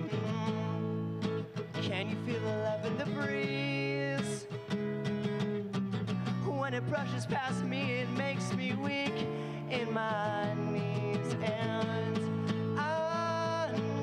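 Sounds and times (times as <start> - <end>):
man singing: 0.0 - 4.8, 6.3 - 14.0
strummed acoustic guitar: 0.0 - 14.0.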